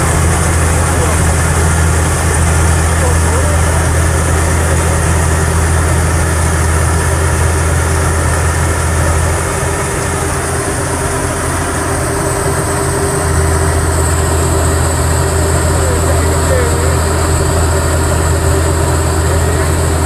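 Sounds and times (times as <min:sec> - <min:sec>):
diesel engine low hum: 0:00.0 - 0:20.0.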